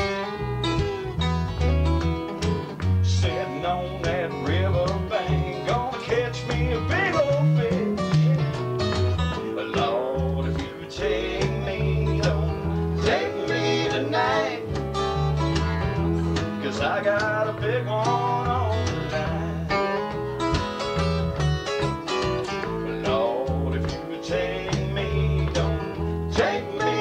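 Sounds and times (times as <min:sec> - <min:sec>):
bass guitar: 0:00.0 - 0:27.0
sliding lead guitar line: 0:00.0 - 0:27.0
strummed acoustic guitars: 0:00.0 - 0:27.0.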